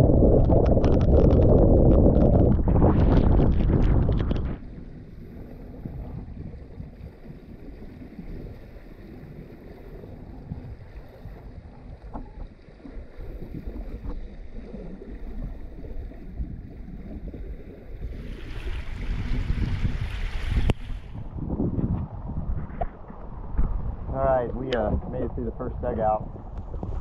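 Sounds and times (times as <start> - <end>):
water washing along hull: 0.0 - 27.0
wind buffeting microphone: 0.0 - 27.0.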